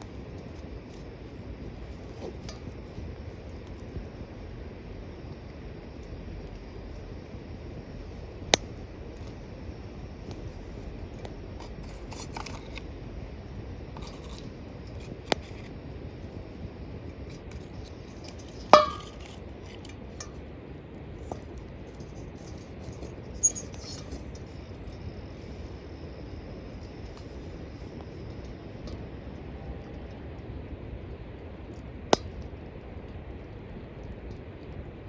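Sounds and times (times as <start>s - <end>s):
steady low hiss: 0.0s - 35.0s.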